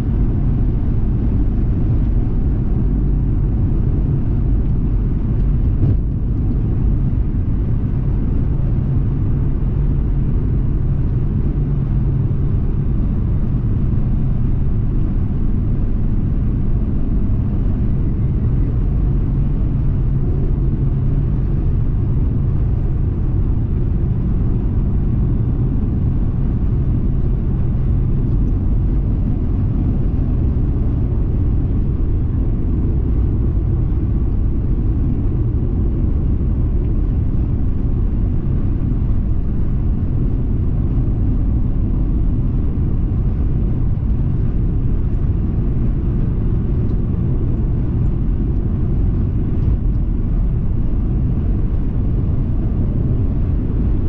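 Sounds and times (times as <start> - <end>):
car road rumble inside cabin: 0.0 - 54.0.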